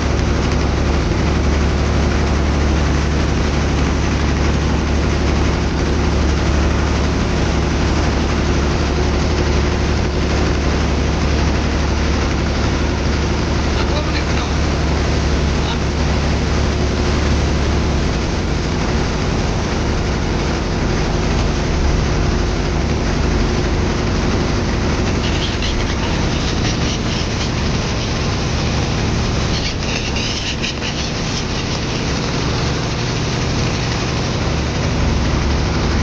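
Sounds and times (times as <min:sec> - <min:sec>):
motorboat engine humming: 0:00.0 - 0:36.0.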